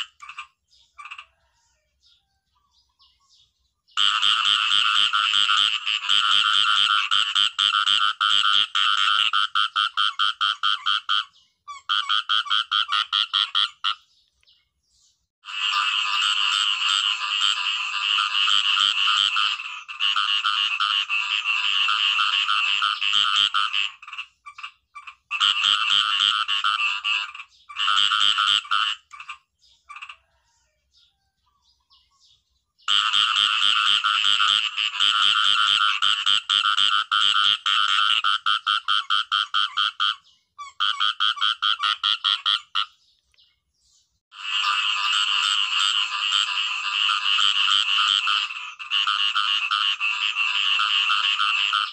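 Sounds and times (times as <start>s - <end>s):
frogs croaking in rapid pulses: 0.0s - 1.6s, 4.0s - 14.1s, 15.4s - 30.5s, 32.8s - 43.0s, 44.3s - 51.9s.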